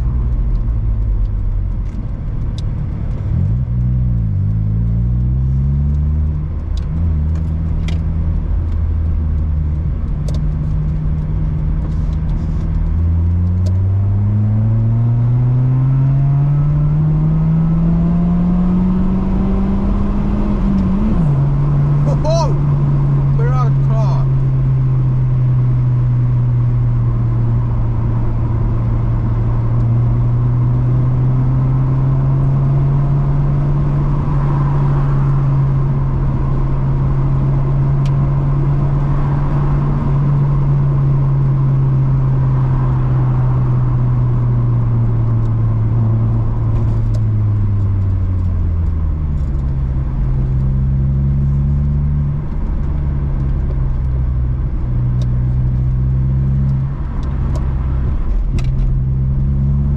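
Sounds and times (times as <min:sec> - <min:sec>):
car engine droning while driving: 0:00.0 - 0:59.9.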